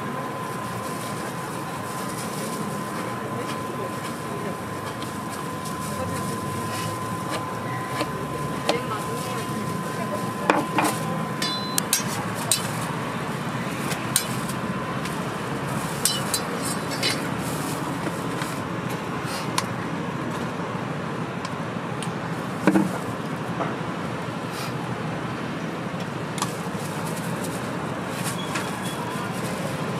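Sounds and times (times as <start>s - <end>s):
street background noise: 0.0s - 29.9s.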